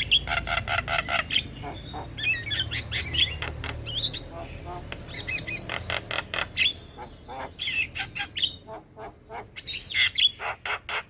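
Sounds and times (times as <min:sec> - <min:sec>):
bird singing chattering and whistling: 0:00.0 - 0:11.0.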